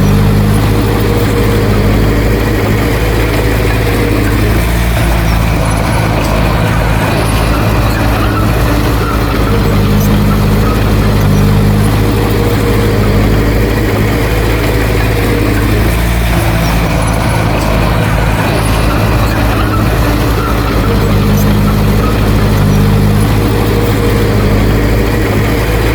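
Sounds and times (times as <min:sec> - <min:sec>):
diesel engine running under load: 0:00.0 - 0:25.9.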